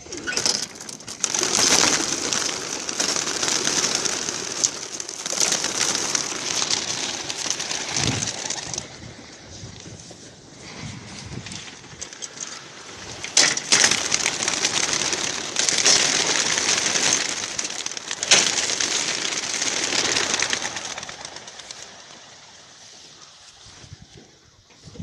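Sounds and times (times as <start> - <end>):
pigeon wings flapping and clapping: 0.0 - 9.4, 10.6 - 23.3.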